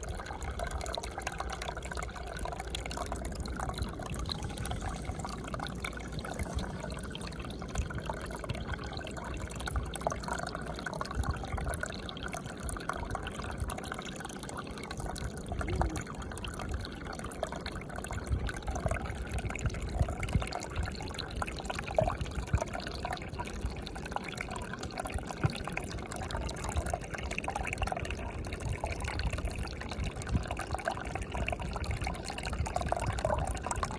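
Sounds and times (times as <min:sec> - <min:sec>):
water running and trickling: 0:00.0 - 0:33.9.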